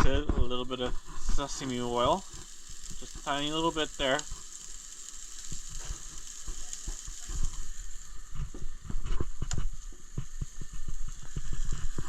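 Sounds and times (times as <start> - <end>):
patty sizzling in oil: 0.0 - 12.0.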